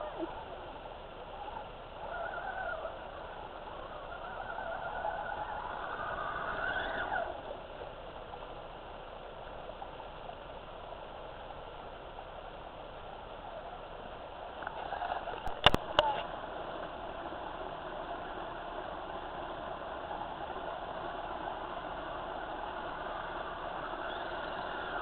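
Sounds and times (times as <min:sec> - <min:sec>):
low steady hiss: 0:00.0 - 0:25.0.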